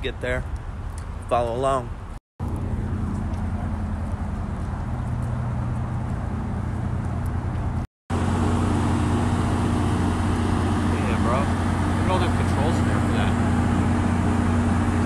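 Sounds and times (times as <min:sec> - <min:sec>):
traffic noise: 0:00.0 - 0:15.0
low engine drone: 0:02.4 - 0:15.0.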